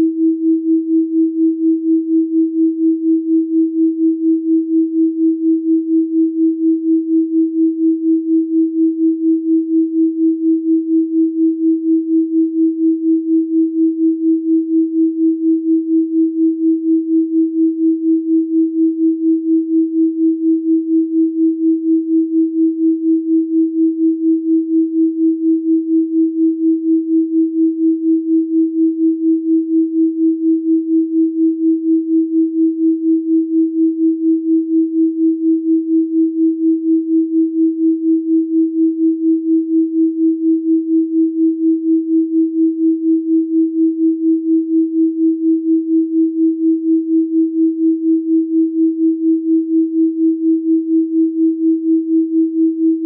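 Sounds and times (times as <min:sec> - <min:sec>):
pulsing sine tone: 0:00.0 - 0:53.0.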